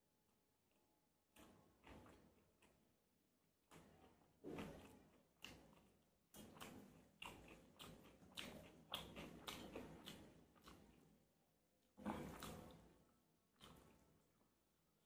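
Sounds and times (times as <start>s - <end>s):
chewing food: 0.3s - 15.0s.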